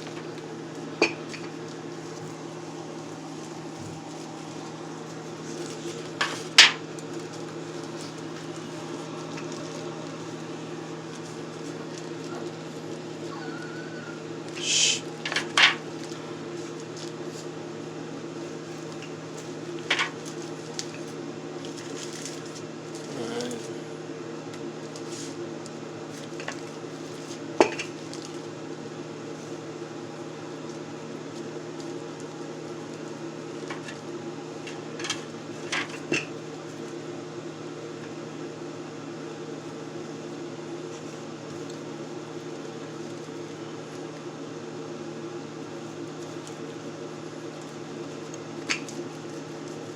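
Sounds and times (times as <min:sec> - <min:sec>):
kitchen appliance hum: 0:00.0 - 0:49.9.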